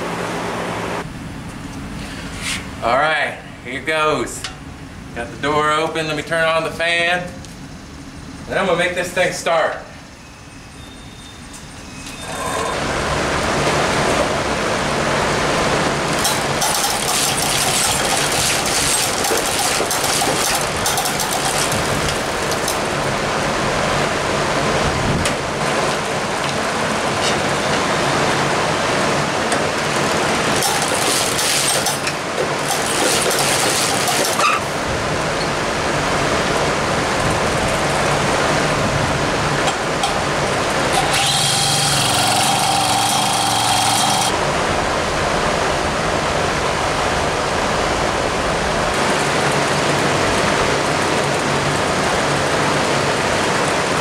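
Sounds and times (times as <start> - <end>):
fan rushing air: 0.0 - 54.0.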